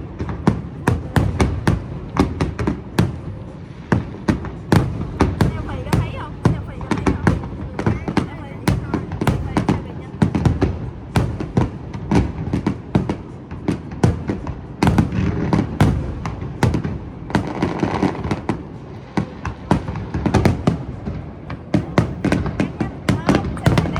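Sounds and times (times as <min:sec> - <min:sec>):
fireworks exploding: 0:00.0 - 0:23.9.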